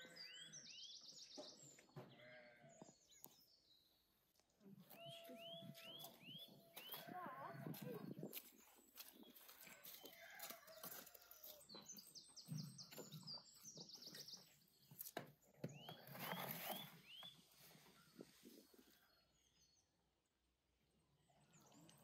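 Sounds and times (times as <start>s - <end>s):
small birds chirping: 0.0s - 20.4s.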